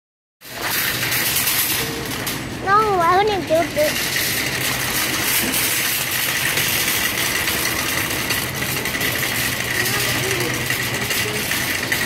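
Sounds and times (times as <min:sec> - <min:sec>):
shopping cart rattling: 0:00.4 - 0:12.0.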